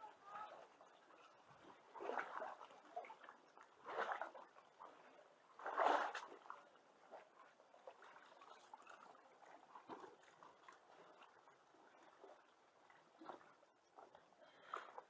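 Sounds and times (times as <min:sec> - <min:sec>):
sea water lapping against rocks: 0:00.0 - 0:15.0.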